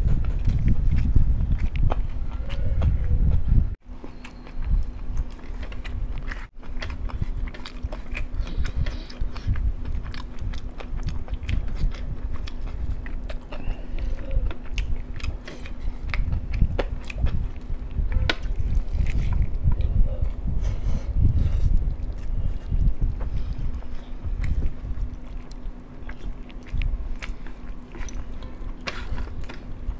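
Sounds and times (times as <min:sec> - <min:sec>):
person chewing rice: 0:00.2 - 0:02.8, 0:03.8 - 0:29.9.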